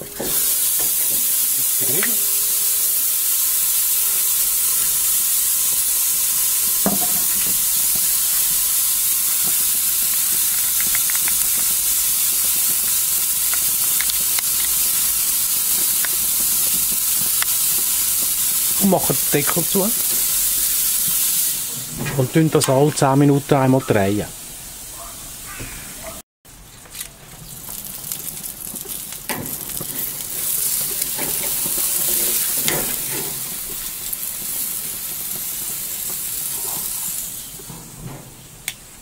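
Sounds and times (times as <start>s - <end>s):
chicken sizzling on a grill: 0.0s - 39.0s.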